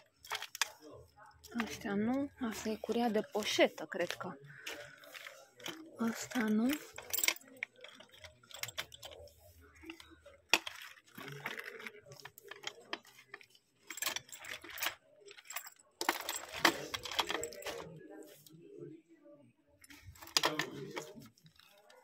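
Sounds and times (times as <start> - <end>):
metal buckles clinking and rattling: 0.0 - 18.0, 19.8 - 22.0
leather rustling: 0.0 - 18.5.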